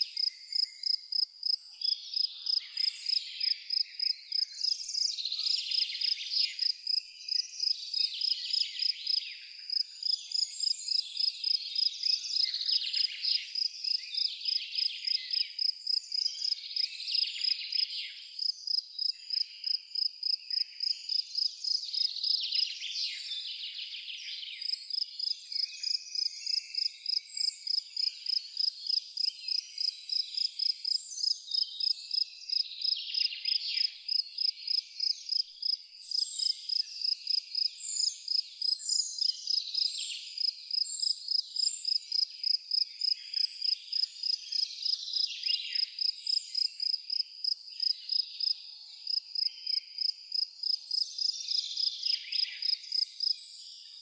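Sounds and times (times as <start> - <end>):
other insects chirping: 0.0 - 5.1, 5.7 - 22.4, 24.6 - 54.0
cricket chirping: 0.0 - 22.4, 24.6 - 54.0.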